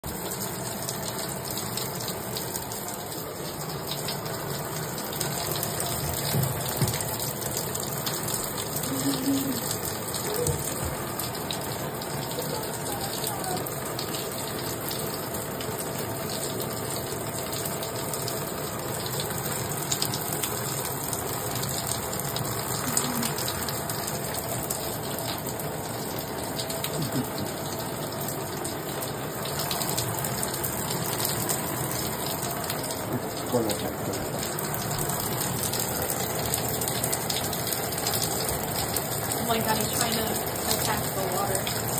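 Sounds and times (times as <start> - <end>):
shower spraying into bathtub: 3.4 - 15.4, 19.2 - 41.9.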